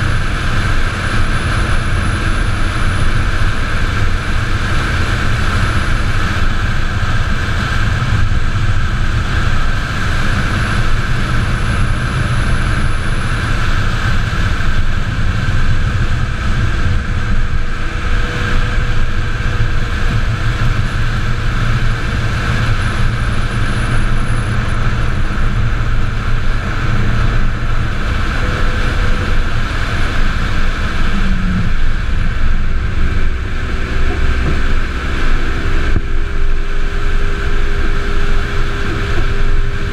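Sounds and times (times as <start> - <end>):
deep rumble: 0.0 - 39.9
wind and road noise: 0.0 - 39.9.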